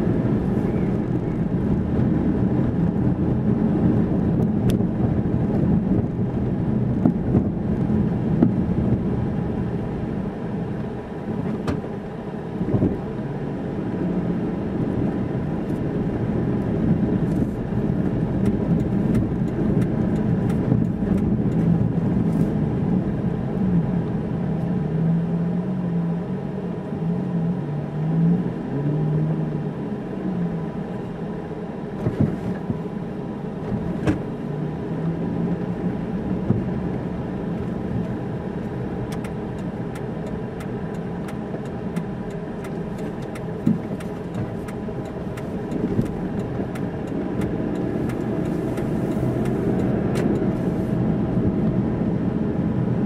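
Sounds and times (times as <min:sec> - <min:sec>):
car engine rumble: 0:00.0 - 0:53.0.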